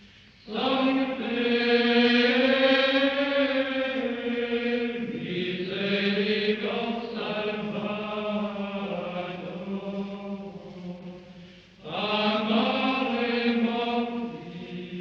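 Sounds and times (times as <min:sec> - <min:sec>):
slow sung chant: 0:00.0 - 0:15.0.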